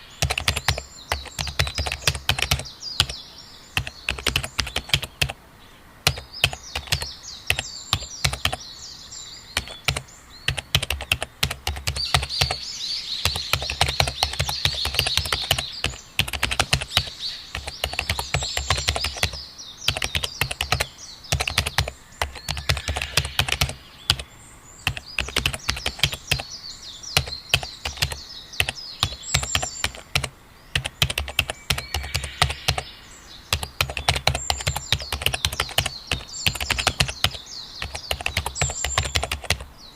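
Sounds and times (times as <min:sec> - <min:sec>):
birds chirping: 0:00.0 - 0:39.9
keyboard typing: 0:00.2 - 0:03.2, 0:03.8 - 0:05.4, 0:06.1 - 0:08.6, 0:09.6 - 0:12.6, 0:13.2 - 0:24.2, 0:24.8 - 0:26.4, 0:27.2 - 0:32.9, 0:33.5 - 0:39.6.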